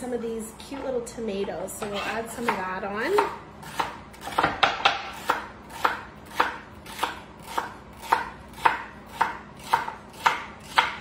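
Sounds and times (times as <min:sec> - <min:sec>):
knife chopping celery on board: 0:01.8 - 0:11.0.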